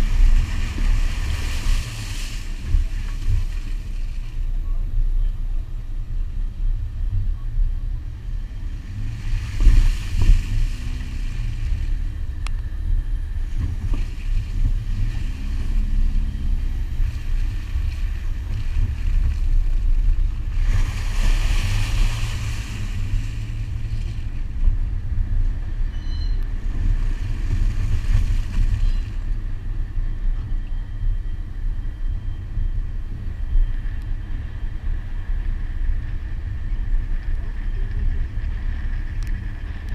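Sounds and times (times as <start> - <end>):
car engine rumble: 0.0 - 39.9
wind buffeting microphone: 0.0 - 39.9.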